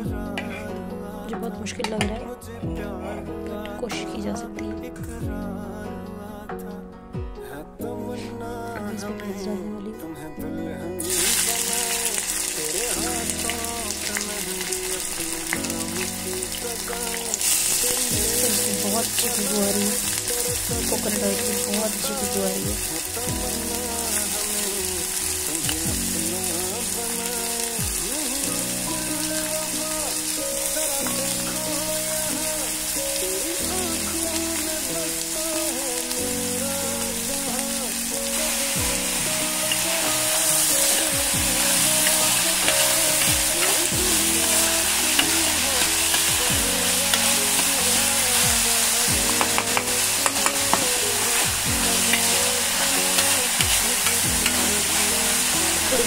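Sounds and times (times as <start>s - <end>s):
onions sizzling in oil: 11.0s - 56.0s.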